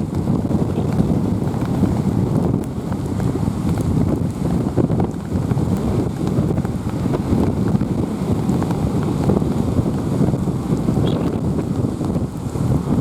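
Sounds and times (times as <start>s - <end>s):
rough sea surf: 0.0s - 13.0s
wind buffeting microphone: 0.0s - 13.0s.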